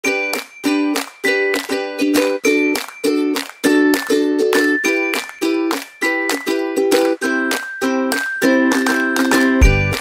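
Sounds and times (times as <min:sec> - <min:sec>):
bright melody of short notes: 0:00.0 - 0:10.0.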